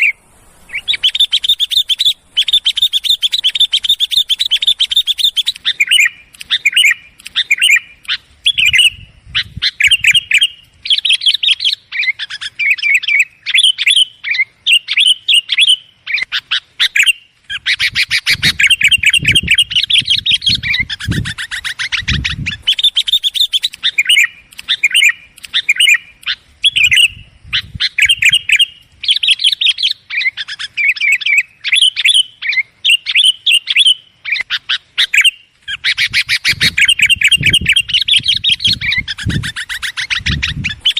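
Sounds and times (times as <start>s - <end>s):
bulbuls chattering calls: 0.0s - 40.9s.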